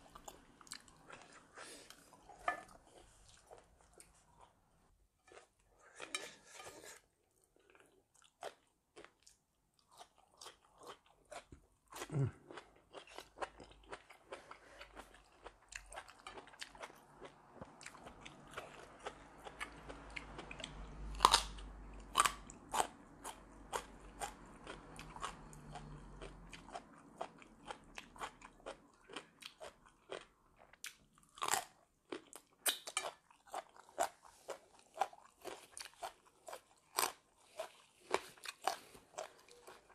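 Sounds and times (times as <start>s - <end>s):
person chewing crunchy vegetables: 0.0s - 4.6s, 5.2s - 39.9s.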